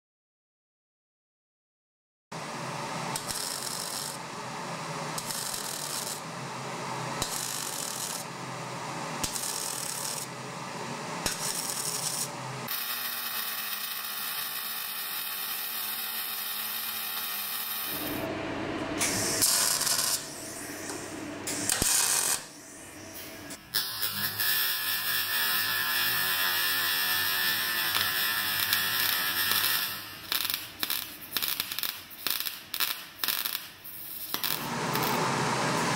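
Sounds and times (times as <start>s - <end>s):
welding arc crackling and sizzling: 2.4s - 18.3s, 19.0s - 35.9s.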